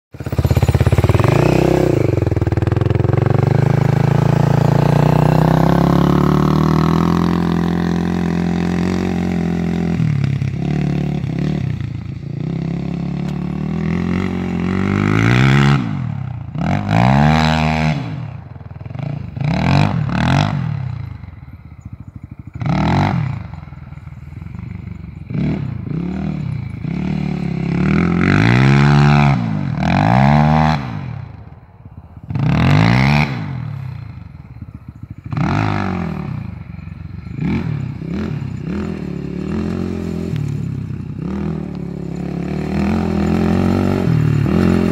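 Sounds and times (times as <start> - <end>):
atv engine revving: 0.2 - 44.9.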